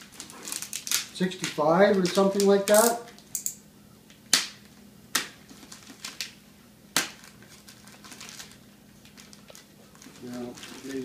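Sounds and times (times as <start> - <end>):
plastic wrapping handling: 0.0 - 3.4, 4.5 - 11.0.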